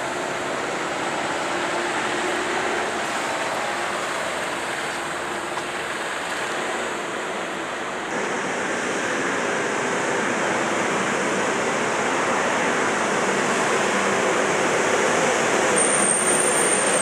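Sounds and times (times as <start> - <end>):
truck engine and tyres rushing: 0.0 - 17.0.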